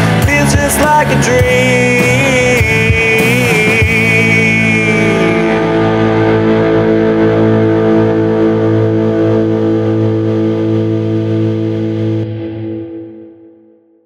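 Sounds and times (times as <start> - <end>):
distorted electric guitar chord ringing: 0.0 - 14.0.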